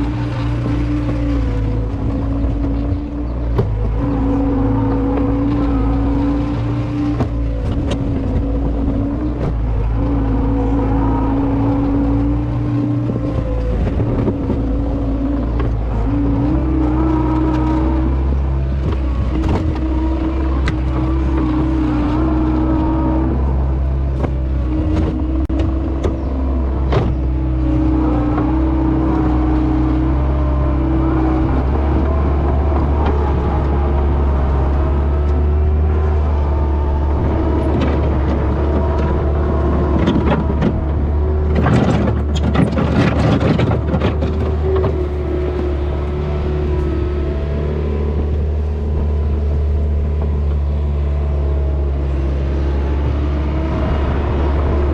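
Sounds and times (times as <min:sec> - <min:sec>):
utility vehicle engine running: 0:00.0 - 0:54.9.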